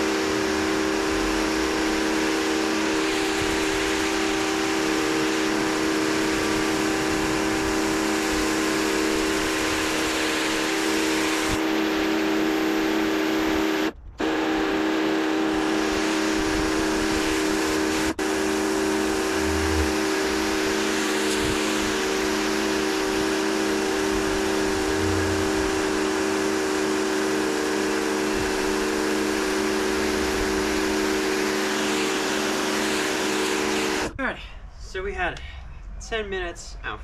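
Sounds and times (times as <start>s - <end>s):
water jet spraying on concrete: 0.0s - 13.8s, 14.6s - 34.1s
pressure washer motor hum: 0.0s - 34.1s.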